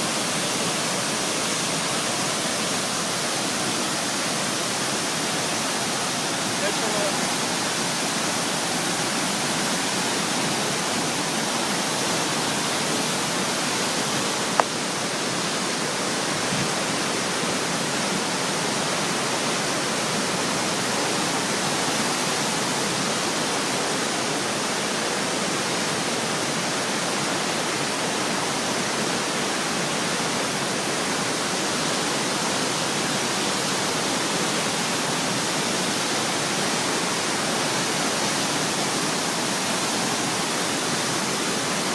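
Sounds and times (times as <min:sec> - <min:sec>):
waterfall roar: 0:00.0 - 0:41.9.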